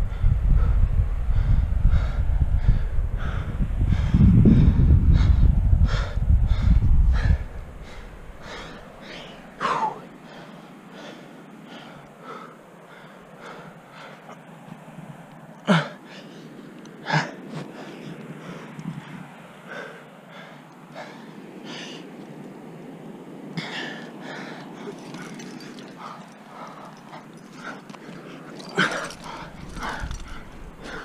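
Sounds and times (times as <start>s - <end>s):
person breathing hard: 0.0s - 14.6s, 15.6s - 22.2s, 23.6s - 31.0s.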